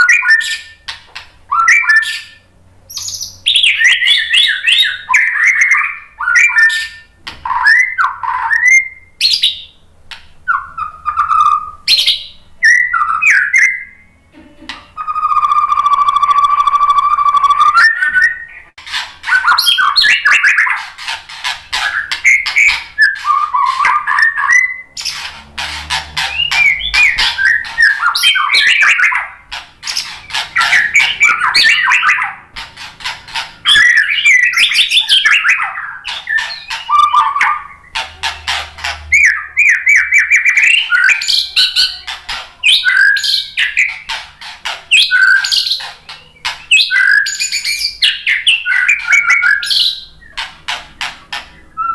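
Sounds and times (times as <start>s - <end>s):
bird singing whistled phrases: 0.0s - 0.8s, 1.5s - 9.8s, 10.4s - 14.1s, 15.0s - 18.7s, 19.3s - 20.8s, 21.8s - 25.2s, 26.2s - 32.4s, 33.6s - 38.0s, 39.1s - 42.0s, 42.6s - 44.1s, 44.9s - 50.3s.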